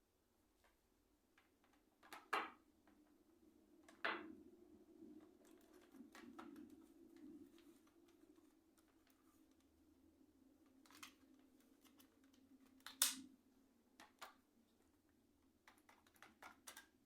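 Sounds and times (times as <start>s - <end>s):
faint low hum: 0.0s - 16.1s.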